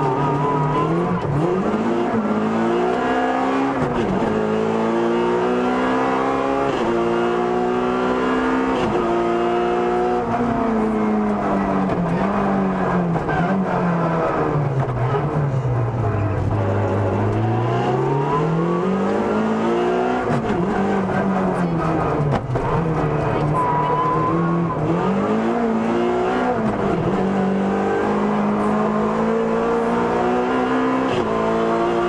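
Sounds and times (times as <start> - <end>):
car engine accelerating through gears: 0.0 - 32.0.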